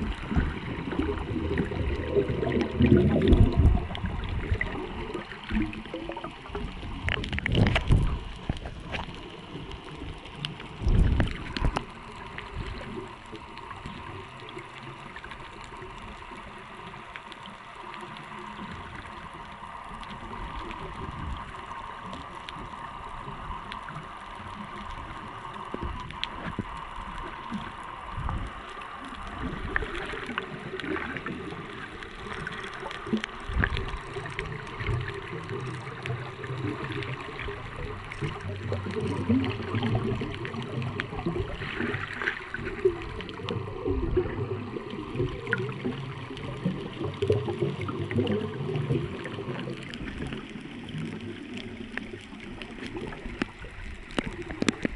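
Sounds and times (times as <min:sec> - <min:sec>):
low underwater rumble: 0:00.0 - 0:54.9
underwater bubbling and gurgling: 0:00.0 - 0:54.9
faint clicks: 0:00.1 - 0:54.9.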